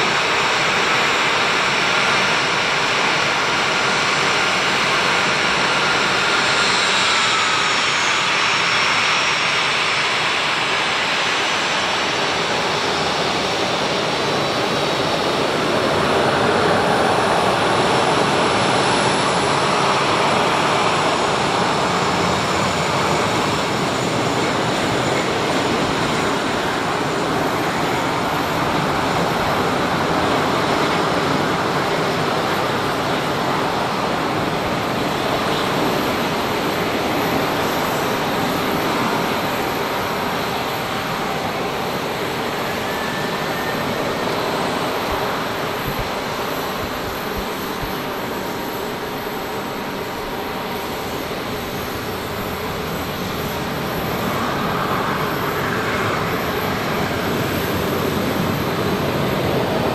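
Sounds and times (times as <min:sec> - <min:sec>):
jet engines at taxi power: 0:00.0 - 0:59.9.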